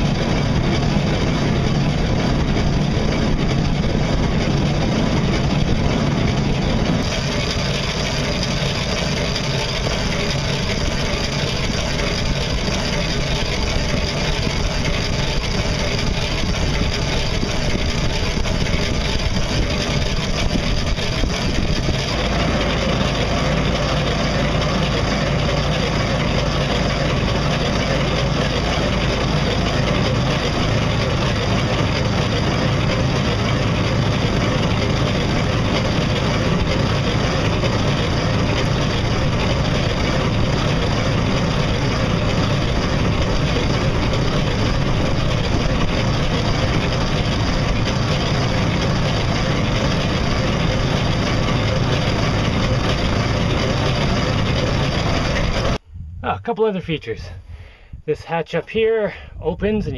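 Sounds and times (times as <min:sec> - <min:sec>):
rush of water and wake: 0:00.0 - 0:55.8
low hum of boat drive: 0:00.0 - 0:59.9.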